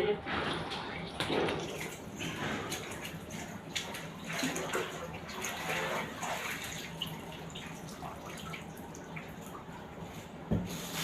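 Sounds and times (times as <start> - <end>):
water running and splashing: 0.8 - 10.0.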